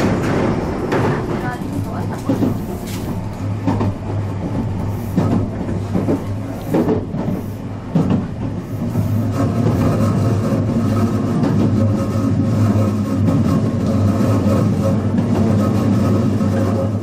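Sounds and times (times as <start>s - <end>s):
knocks and clatters: 0.0s - 17.0s
train hum and rumble: 0.0s - 17.0s.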